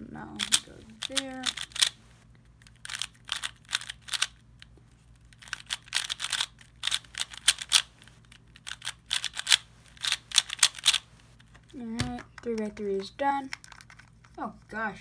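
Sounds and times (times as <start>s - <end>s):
puzzle cube plastic clicking: 0.4s - 2.0s, 2.6s - 14.4s.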